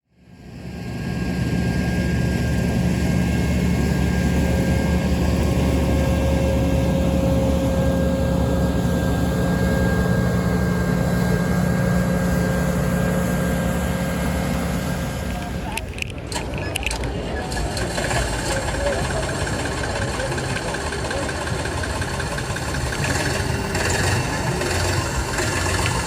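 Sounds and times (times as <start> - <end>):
tractor diesel engine running: 0.1 - 26.0.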